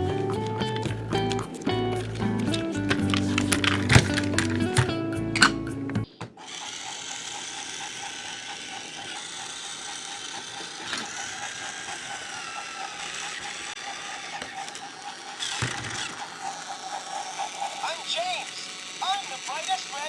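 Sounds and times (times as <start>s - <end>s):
toy train motor whirring: 0.0s - 4.9s, 6.4s - 20.0s.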